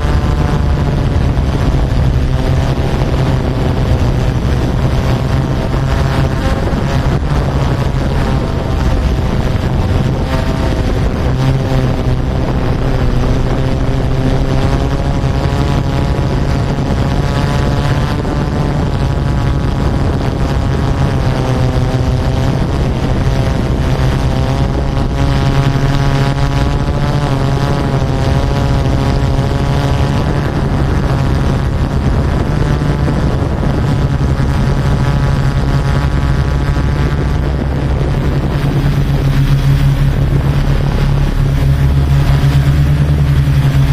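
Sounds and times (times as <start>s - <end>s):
drone propellers buzzing: 0.0s - 43.9s.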